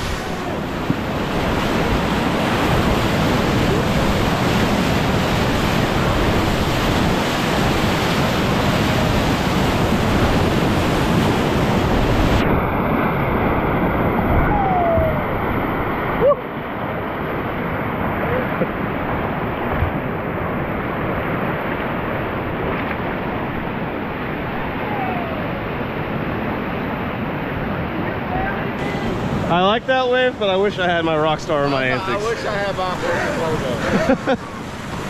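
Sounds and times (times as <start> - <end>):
whitewater rushing: 0.0 - 35.0.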